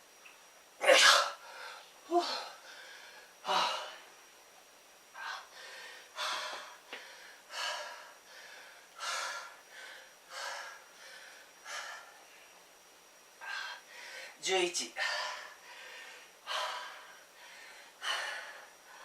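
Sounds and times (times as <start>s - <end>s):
man breathing hard: 1.0s - 4.1s, 5.1s - 12.6s, 13.4s - 14.4s, 15.0s - 19.0s.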